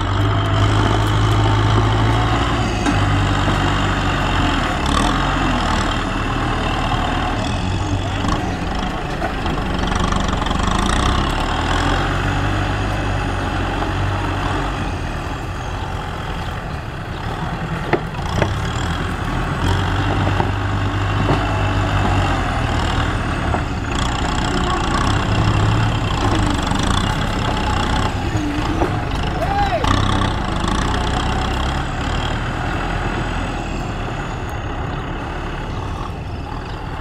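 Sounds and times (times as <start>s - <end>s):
tractor diesel engines running: 0.0s - 37.0s.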